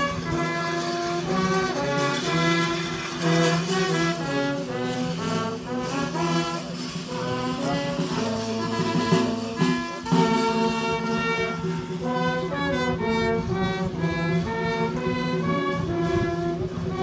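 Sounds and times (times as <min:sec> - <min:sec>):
brass band playing slow melody: 0:00.0 - 0:17.0.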